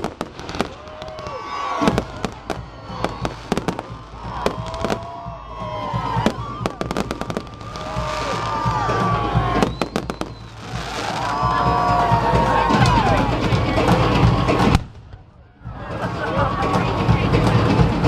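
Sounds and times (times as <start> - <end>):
crowd voices: 0.0 - 18.0
fireworks bangs and crackling: 0.0 - 18.0.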